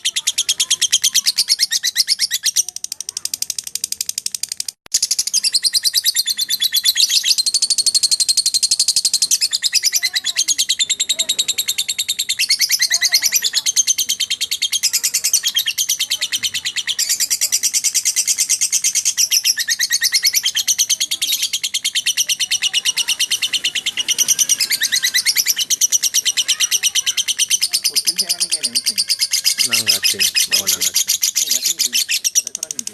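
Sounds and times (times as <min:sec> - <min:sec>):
lovebird chattering trill: 0:00.0 - 0:32.9.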